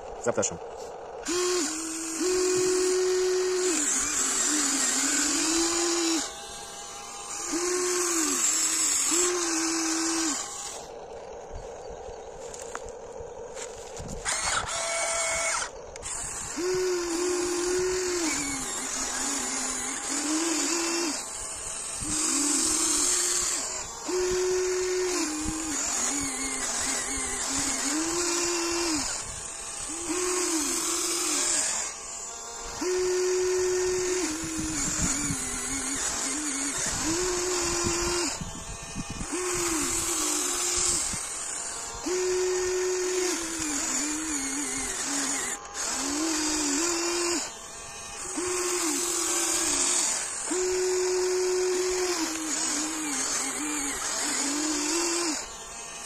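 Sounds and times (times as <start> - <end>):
hydraulic pump whining: 0.0 - 56.0.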